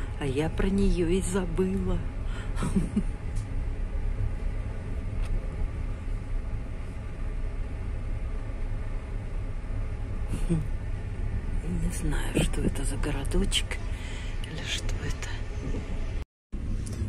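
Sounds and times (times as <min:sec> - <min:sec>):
train rumbling inside carriage: 0:00.0 - 0:17.0.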